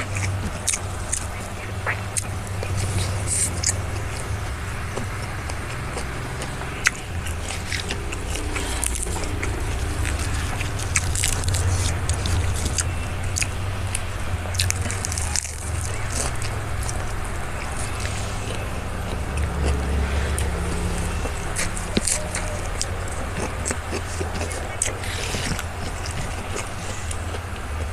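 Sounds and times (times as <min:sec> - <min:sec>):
crisp clicks and crackles: 0:00.0 - 0:27.9
person chewing food: 0:00.0 - 0:27.9
steady low hum: 0:00.0 - 0:27.9.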